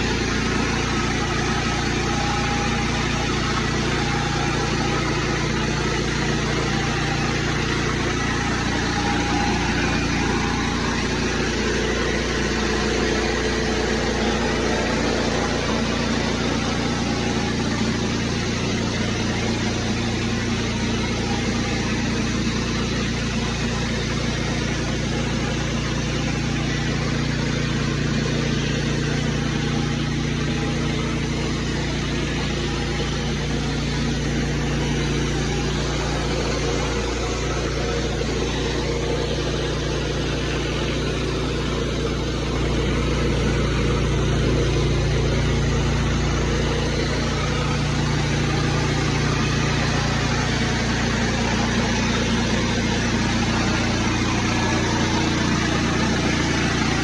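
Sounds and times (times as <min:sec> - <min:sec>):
pressure washer engine running: 0:00.0 - 0:57.0.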